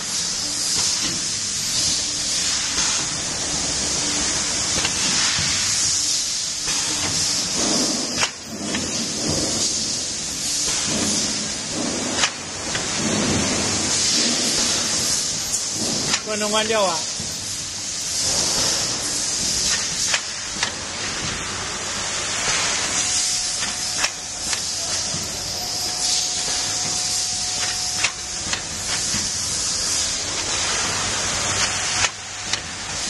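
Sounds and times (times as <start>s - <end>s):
filling machine hissing: 0.0s - 33.0s.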